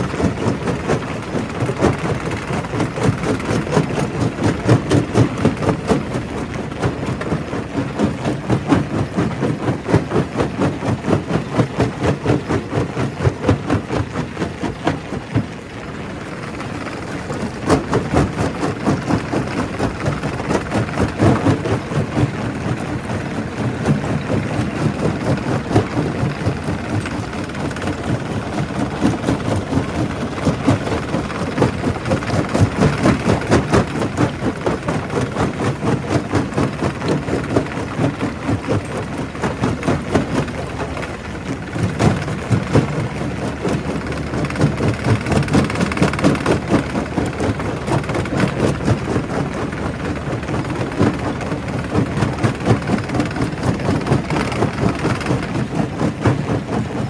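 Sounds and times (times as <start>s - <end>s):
rock crusher machine drone: 0.0s - 57.0s.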